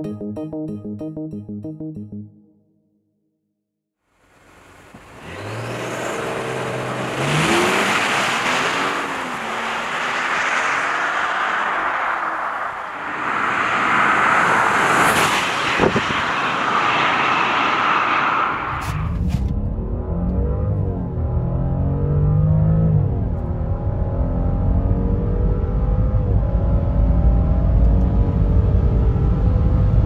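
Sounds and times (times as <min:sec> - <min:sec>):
car engine accelerating hard: 0:04.4 - 0:30.0.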